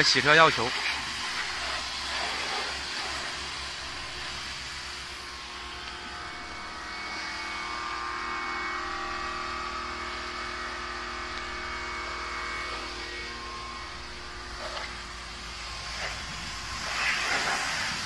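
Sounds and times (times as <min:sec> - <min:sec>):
water jet hissing on metal: 0:00.0 - 0:09.5, 0:11.4 - 0:18.0
water pump humming: 0:00.0 - 0:18.0.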